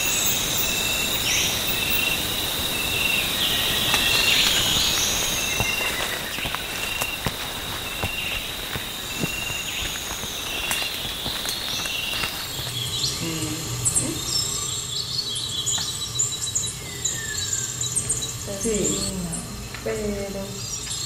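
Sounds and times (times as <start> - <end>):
insect chirps: 0.0 - 21.0
insects buzzing: 0.0 - 21.0.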